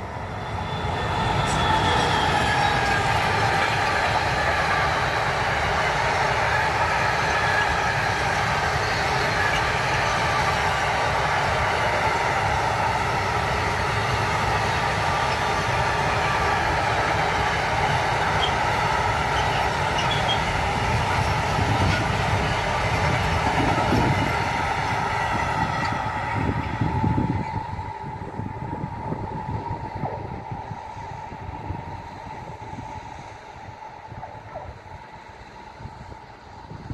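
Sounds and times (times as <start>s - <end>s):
freight train wheels rumbling: 0.0s - 36.9s.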